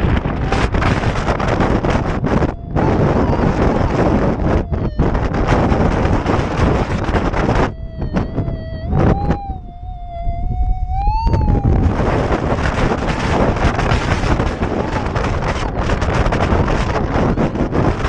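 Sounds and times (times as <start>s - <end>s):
wind buffeting microphone: 0.0s - 18.0s
metal detector wavering tone: 0.4s - 18.0s.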